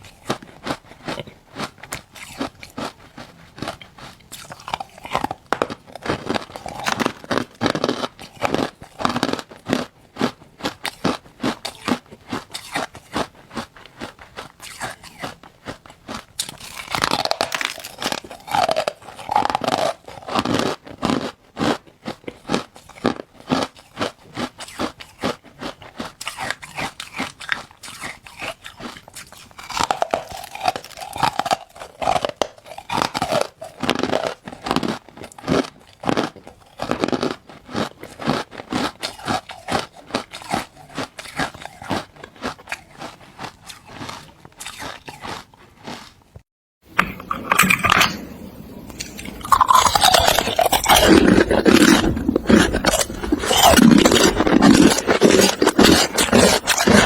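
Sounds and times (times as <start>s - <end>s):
ice crunching while chewed: 0.0s - 46.4s, 47.0s - 48.2s, 48.9s - 57.0s.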